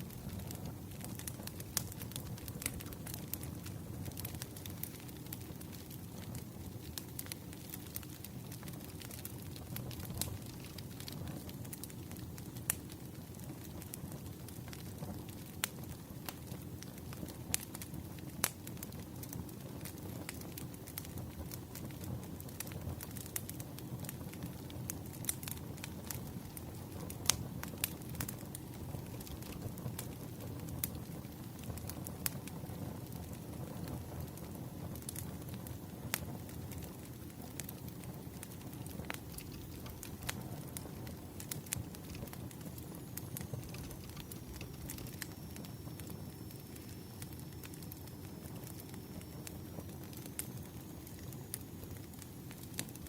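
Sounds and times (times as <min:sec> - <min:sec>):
campfire crackling: 0:00.0 - 0:53.0
sharp pops from fire: 0:00.0 - 0:53.0.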